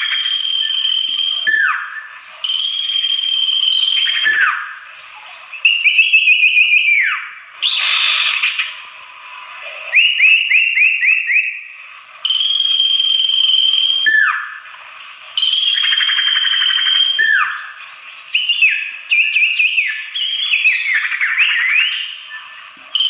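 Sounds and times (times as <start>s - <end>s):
bird whistling: 0.0s - 8.8s, 9.9s - 14.6s, 15.4s - 23.0s.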